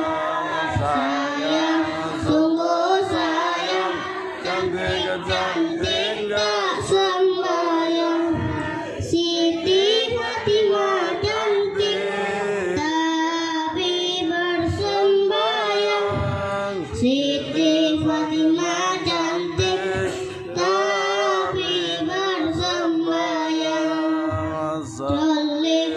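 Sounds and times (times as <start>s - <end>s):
boy singing into microphone: 0.0s - 25.9s.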